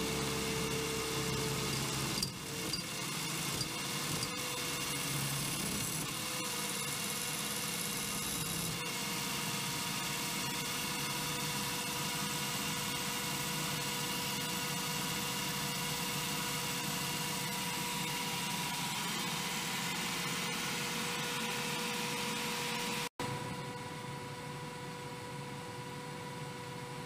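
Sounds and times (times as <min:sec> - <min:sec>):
electric motor whirring and whining: 0:00.0 - 0:23.1.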